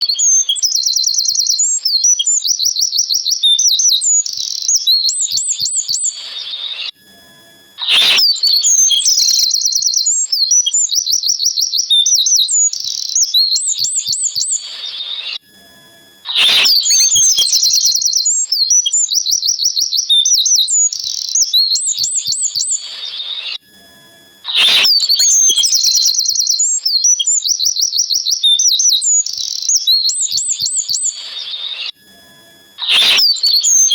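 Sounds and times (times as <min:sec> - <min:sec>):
birds chirping and trilling: 0:00.0 - 0:06.9, 0:07.8 - 0:15.4, 0:16.3 - 0:23.6, 0:24.5 - 0:31.9, 0:32.8 - 0:33.9.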